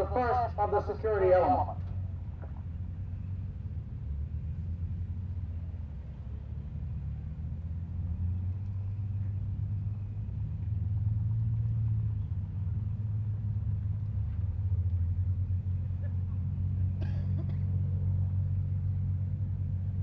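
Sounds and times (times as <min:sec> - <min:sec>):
helicopter flying past: 0:00.0 - 0:20.0.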